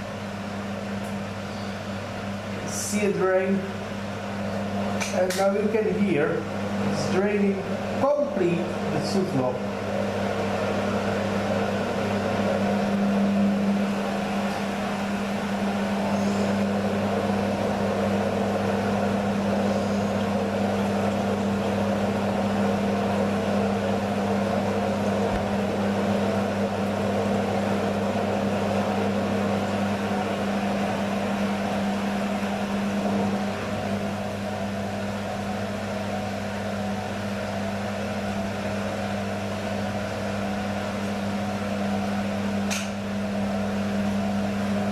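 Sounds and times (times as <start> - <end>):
washing machine drain pump hum: 0.0 - 44.9.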